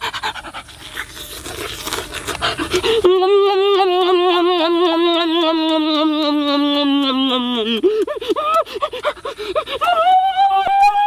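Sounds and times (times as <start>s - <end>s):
man eating noisily: 0.0s - 9.9s.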